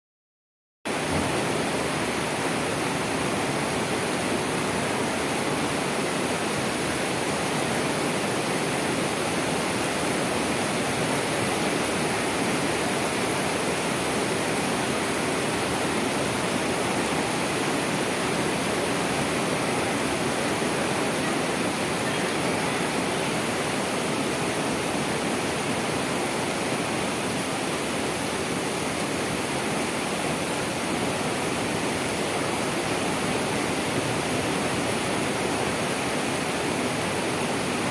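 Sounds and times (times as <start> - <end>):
rain with wind: 0.9 - 37.9.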